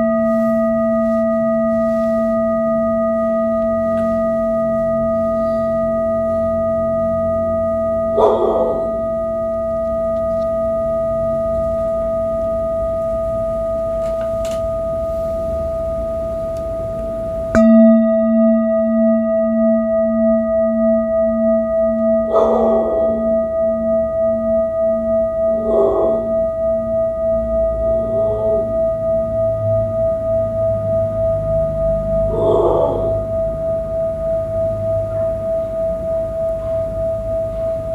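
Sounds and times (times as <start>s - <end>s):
metal singing bowl ringing: 0.0s - 37.9s.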